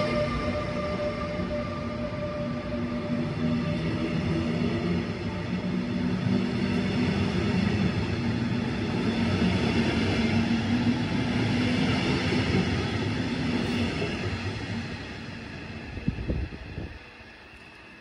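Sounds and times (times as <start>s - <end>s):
train coaches rumbling past: 0.0s - 18.0s.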